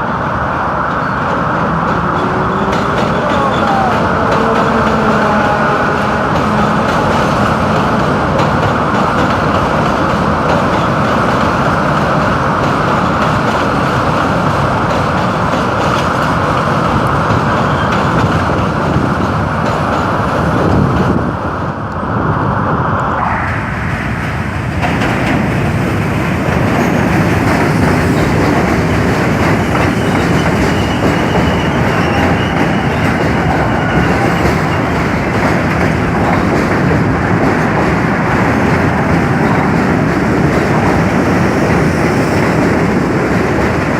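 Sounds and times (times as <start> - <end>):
subway train wheels clattering: 0.0 - 43.9.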